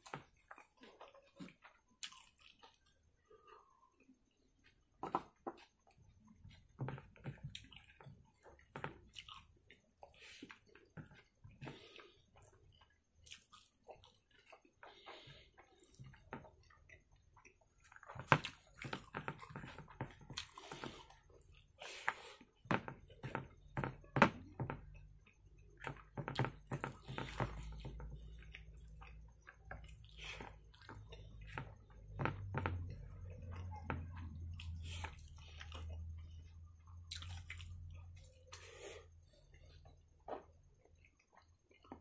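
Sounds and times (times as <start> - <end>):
person chewing: 0.0 - 4.1, 6.9 - 23.3, 25.5 - 42.0.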